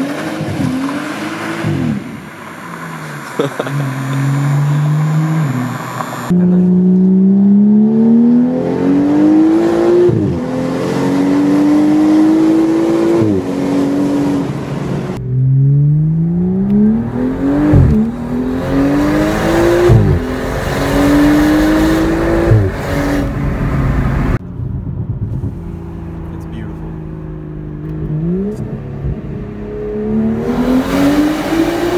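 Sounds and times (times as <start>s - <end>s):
car engine accelerating hard: 0.0s - 24.4s, 25.0s - 31.9s.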